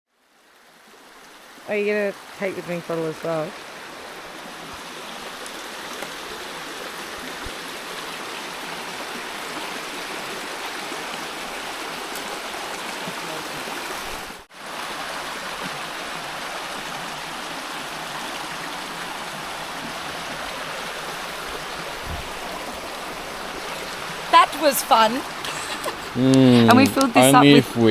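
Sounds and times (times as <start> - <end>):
stream water rushing: 0.1 - 27.9.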